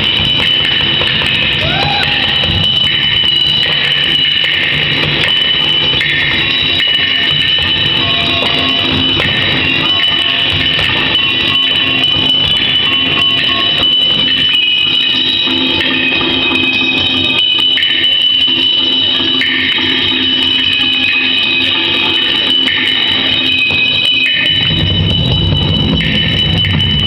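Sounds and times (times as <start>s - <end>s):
high-pitched ringing tone: 0.0s - 27.0s
percussion on metal pots: 0.0s - 27.0s.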